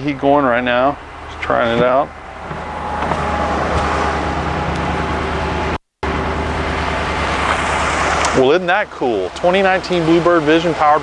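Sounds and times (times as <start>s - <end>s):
engine idling hum: 0.0s - 11.0s
heater blower fans rushing air: 0.1s - 11.0s.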